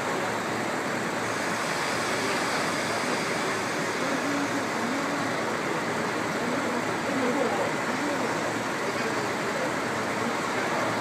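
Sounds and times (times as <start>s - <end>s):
diesel railcars idling: 0.0s - 11.0s.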